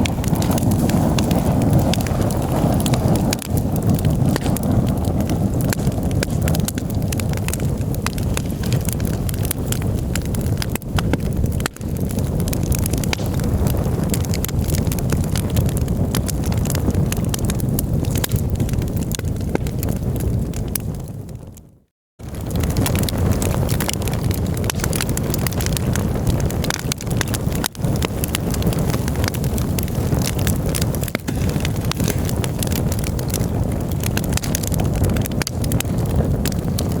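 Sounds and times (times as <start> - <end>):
fire low rumble: 0.0 - 37.0
wood crackling and popping: 0.0 - 37.0.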